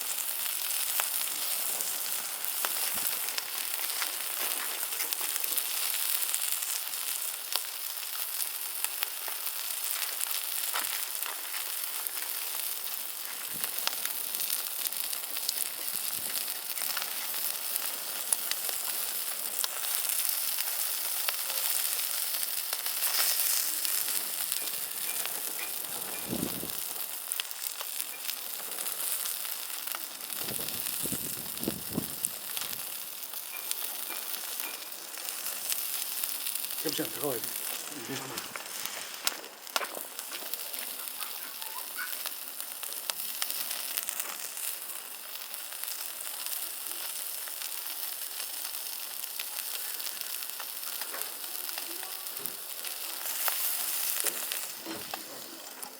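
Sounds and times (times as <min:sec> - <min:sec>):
food sizzling on a grill: 0:00.0 - 0:55.9
wood fire crackling and popping: 0:00.0 - 0:55.9.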